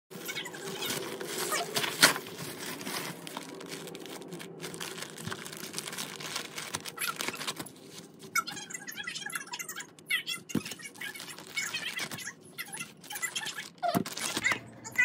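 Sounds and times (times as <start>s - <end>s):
sharp plastic crackle: 0.1s - 8.4s, 9.9s - 14.7s
plastic packaging crinkling: 0.2s - 8.4s, 10.5s - 14.7s.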